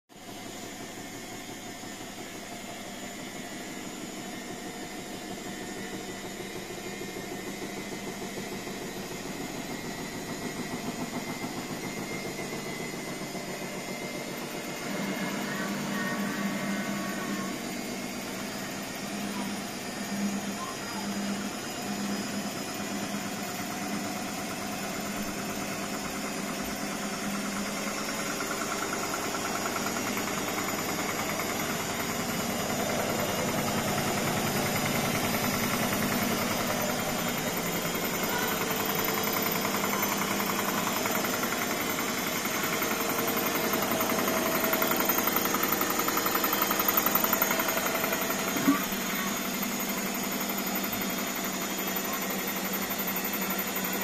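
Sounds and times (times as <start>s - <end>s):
washing machine spinning: 0.1s - 54.0s.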